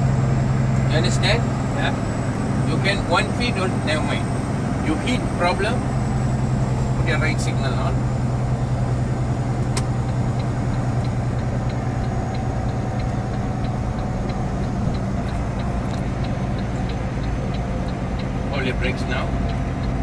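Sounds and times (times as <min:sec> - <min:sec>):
truck engine droning: 0:00.0 - 0:20.0
turn signal ticking: 0:00.0 - 0:20.0.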